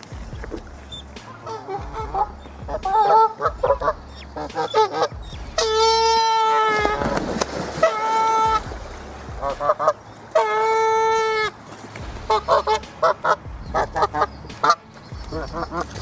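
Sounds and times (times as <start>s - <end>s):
swans honking: 0.0s - 16.0s
short rapid swan calls: 0.3s - 7.1s, 7.7s - 8.7s, 9.4s - 16.0s.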